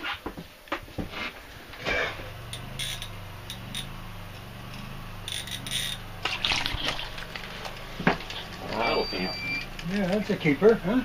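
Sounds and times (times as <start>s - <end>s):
low hum: 1.4s - 11.0s.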